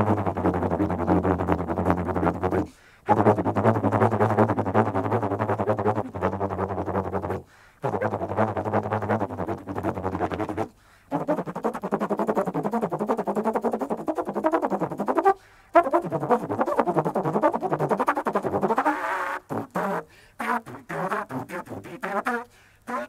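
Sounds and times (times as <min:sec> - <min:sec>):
trombone playing fast line: 0:00.0 - 0:23.0.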